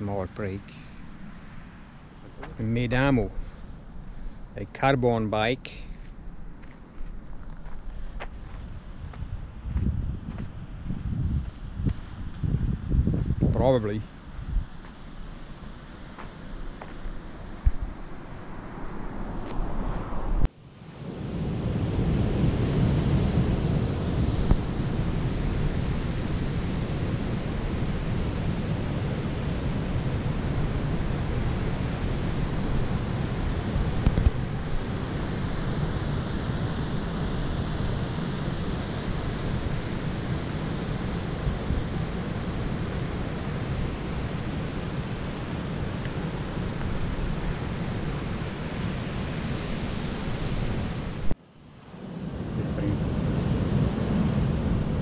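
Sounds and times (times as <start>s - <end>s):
wind buffeting microphone: 6.0s - 20.5s, 21.1s - 51.4s, 52.0s - 55.0s.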